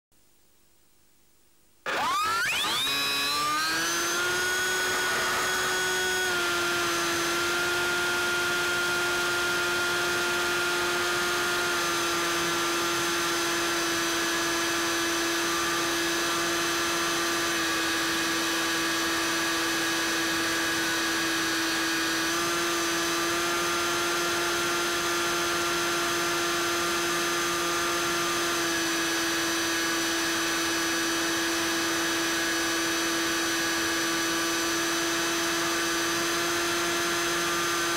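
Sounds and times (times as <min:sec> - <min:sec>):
electric motor and propeller whine: 0:01.9 - 0:37.9.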